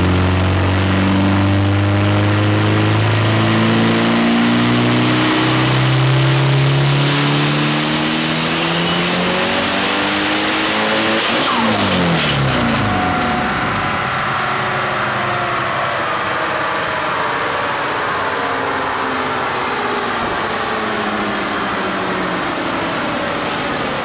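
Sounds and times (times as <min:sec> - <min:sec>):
car engine running: 0:00.0 - 0:24.0
loud rush of noise: 0:02.8 - 0:24.0.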